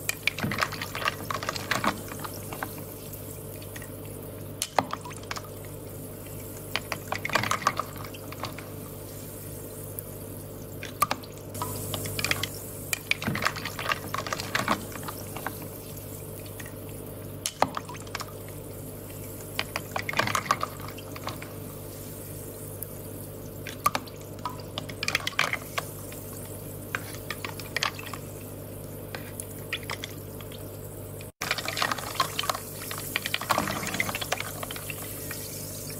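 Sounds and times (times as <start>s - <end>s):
water dripping and trickling: 0.0s - 35.9s.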